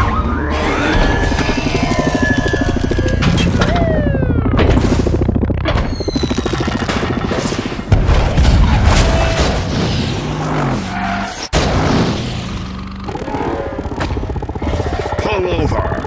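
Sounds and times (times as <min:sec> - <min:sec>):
action film music: 0:00.0 - 0:16.0.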